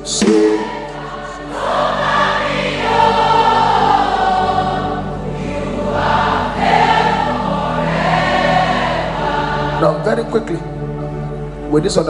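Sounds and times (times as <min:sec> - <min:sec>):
congregation chanting in unison: 0:00.0 - 0:11.6
sustained worship music: 0:00.0 - 0:12.0.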